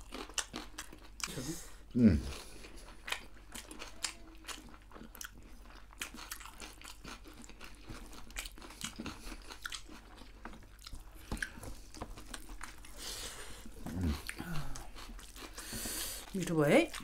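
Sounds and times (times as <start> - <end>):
crunchy chewing: 0.0 - 1.4, 2.2 - 17.0.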